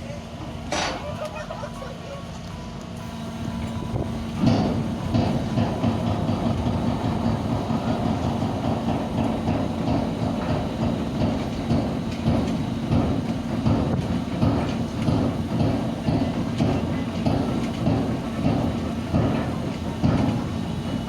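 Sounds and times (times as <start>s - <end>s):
ferry engine humming: 0.0s - 21.0s
continuous rattling clatter: 0.4s - 21.0s.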